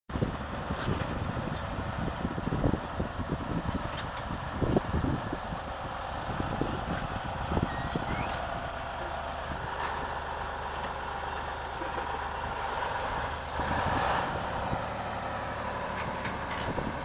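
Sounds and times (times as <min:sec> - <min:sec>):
diesel engine running: 0:00.1 - 0:17.0.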